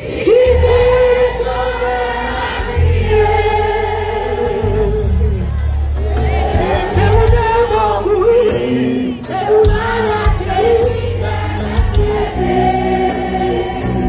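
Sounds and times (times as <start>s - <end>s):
crowd singing a hymn: 0.0s - 14.0s.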